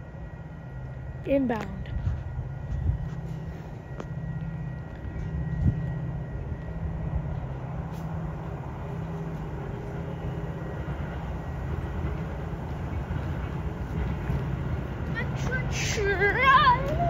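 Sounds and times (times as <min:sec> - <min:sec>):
diesel train passing rumble: 0:00.0 - 0:17.0.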